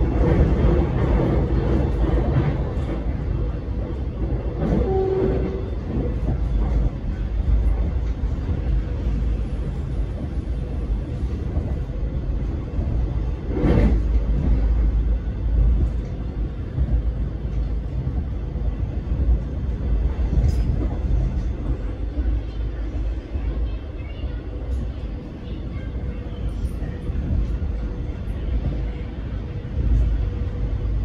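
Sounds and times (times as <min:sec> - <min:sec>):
electric train rumbling: 0:00.0 - 0:31.0.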